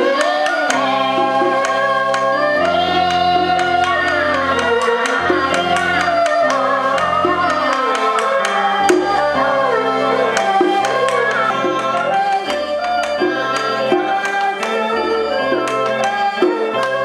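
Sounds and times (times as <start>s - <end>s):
sharp percussion strikes: 0.0s - 17.0s
wavering theatre music melody: 0.0s - 17.0s.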